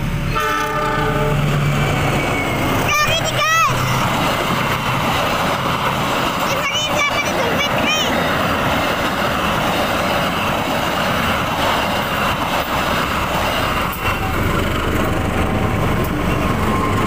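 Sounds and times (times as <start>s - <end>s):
diesel locomotive engine hum: 0.0s - 17.0s
passenger train passing: 0.0s - 17.0s.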